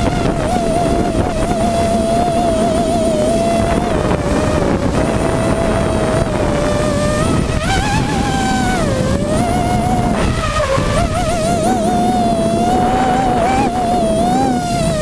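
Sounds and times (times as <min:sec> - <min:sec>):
drone motors whining: 0:00.0 - 0:15.0
wind noise on microphone: 0:00.0 - 0:15.0.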